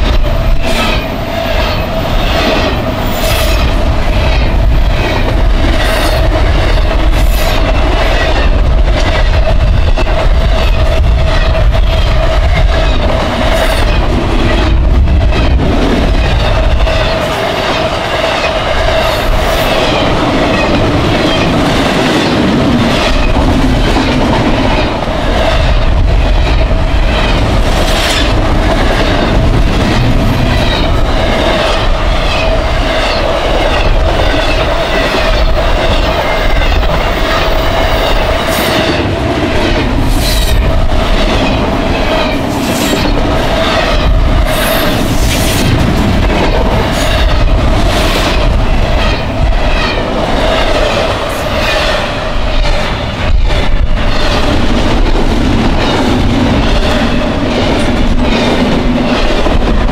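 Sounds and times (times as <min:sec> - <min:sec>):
clickety-clack over rail joints: 0:00.0 - 0:59.9
train wheels rumbling on rail: 0:00.0 - 0:59.9.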